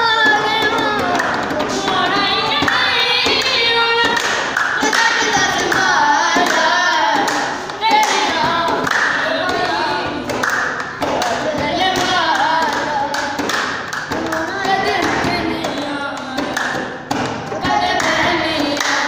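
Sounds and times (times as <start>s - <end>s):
boy singing: 0.0s - 19.0s
hand clapping: 0.0s - 19.0s
hands drumming on wooden desk: 0.0s - 19.0s.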